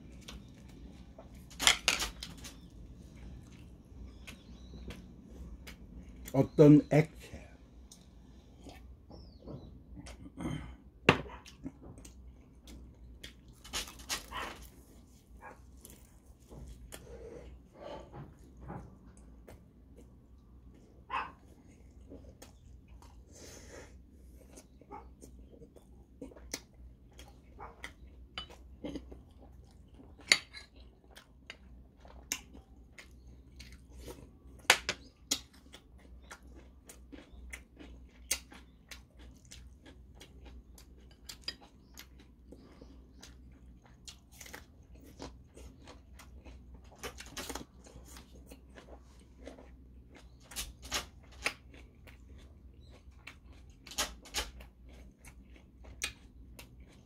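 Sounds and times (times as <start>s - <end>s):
person chewing food: 0.0s - 6.6s, 7.4s - 57.0s.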